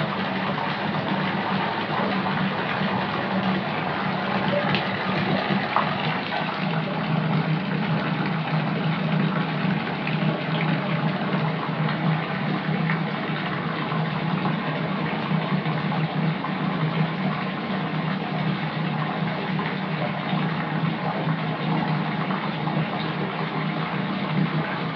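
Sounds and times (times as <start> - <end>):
water pouring into bathtub: 0.0 - 24.9.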